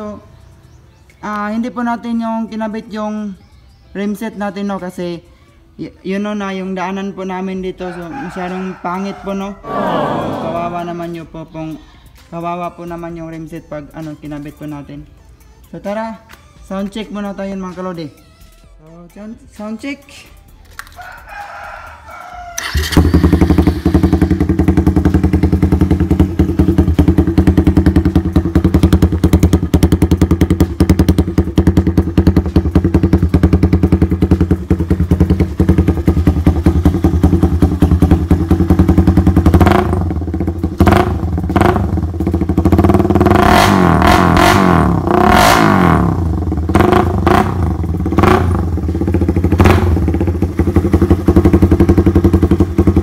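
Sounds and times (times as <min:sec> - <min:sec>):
motorcycle engine idling and revving: 0:00.0 - 0:18.8, 0:20.4 - 0:53.0.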